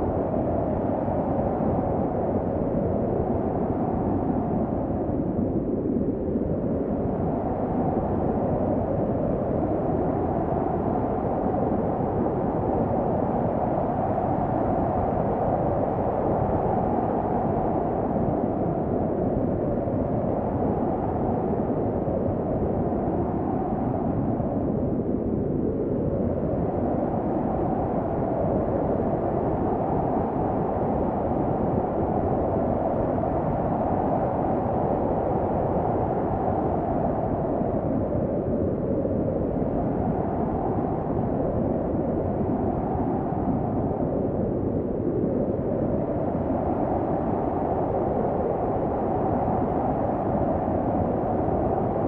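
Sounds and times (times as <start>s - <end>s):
wind blowing steadily: 0.0s - 52.0s.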